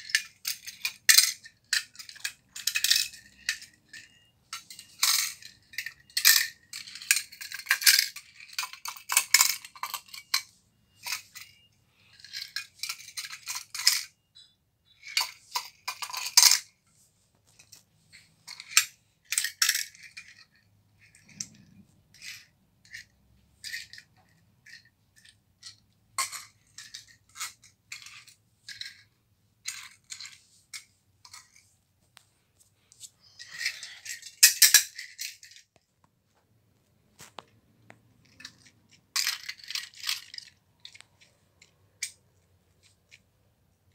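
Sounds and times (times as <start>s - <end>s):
metal toy cars clattering: 0.0s - 31.7s, 33.2s - 35.8s, 37.2s - 43.9s.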